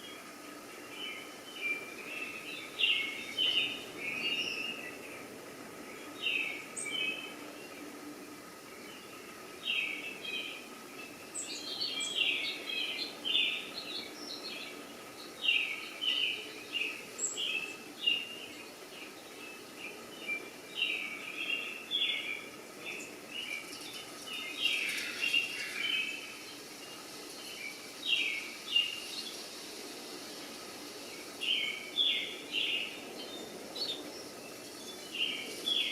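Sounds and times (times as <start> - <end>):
birds chirping: 0.0 - 35.9
faint background hum: 0.0 - 35.9.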